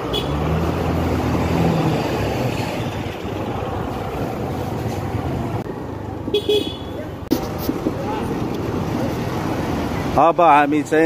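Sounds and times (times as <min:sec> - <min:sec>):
road traffic engines: 0:00.0 - 0:11.0.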